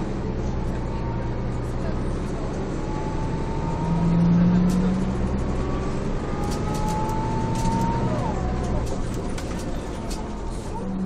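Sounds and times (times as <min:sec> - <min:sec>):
diesel bus engine droning: 0:00.0 - 0:11.0.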